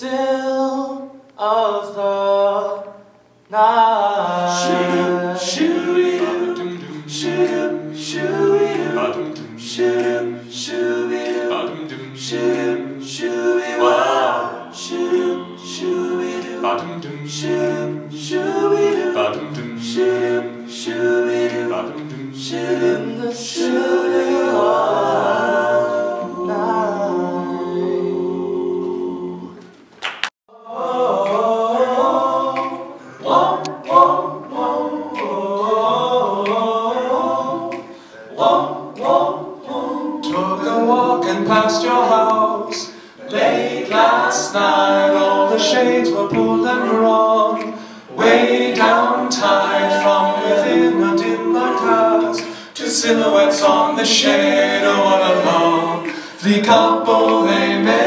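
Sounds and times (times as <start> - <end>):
men singing in harmony: 3.5 - 29.7, 30.5 - 58.0.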